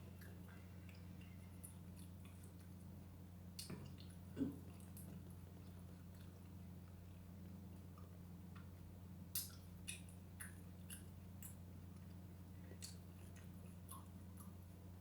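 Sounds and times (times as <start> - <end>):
chewing crisp food crunches: 0.0 - 8.2, 9.3 - 14.9.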